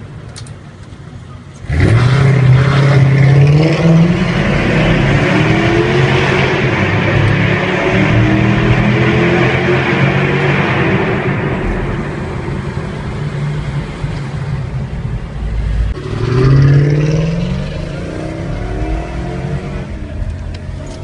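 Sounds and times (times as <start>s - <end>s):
car engine in tunnel: 0.0s - 21.0s.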